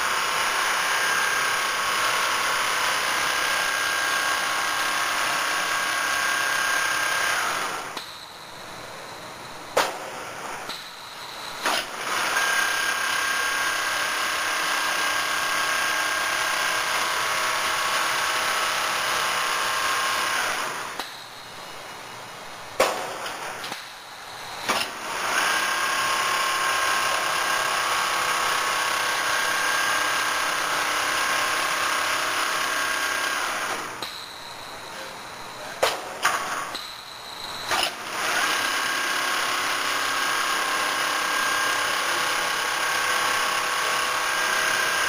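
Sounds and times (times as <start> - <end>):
quilting machine whining: 0.0 - 22.4, 23.2 - 45.0.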